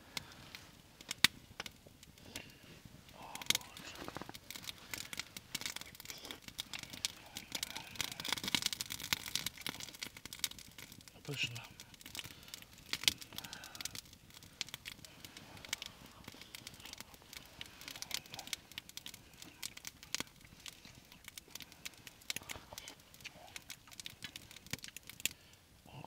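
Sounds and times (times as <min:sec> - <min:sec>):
pan frying with crackling pops: 0:00.0 - 0:25.9.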